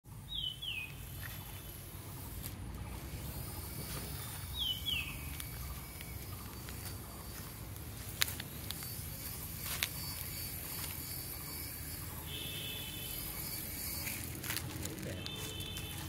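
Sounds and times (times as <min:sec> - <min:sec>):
bird chirping: 0:00.1 - 0:16.0.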